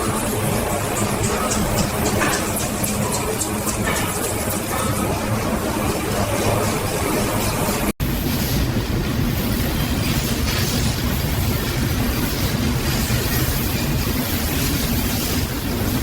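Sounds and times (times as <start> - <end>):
industrial machinery rumbling: 0.0 - 16.0.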